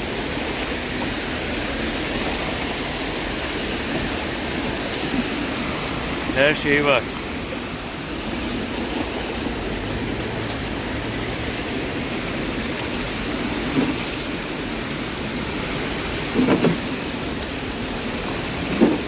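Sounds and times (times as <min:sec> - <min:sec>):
heavy rain falling: 0:00.0 - 0:19.0
water rushing into storm drain: 0:00.0 - 0:19.0.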